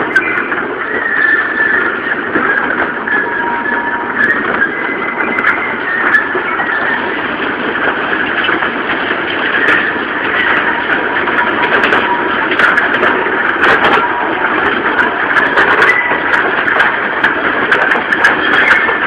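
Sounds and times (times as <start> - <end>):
locomotive engine running: 0.0 - 19.0
train cars rumbling and rattling: 0.0 - 19.0.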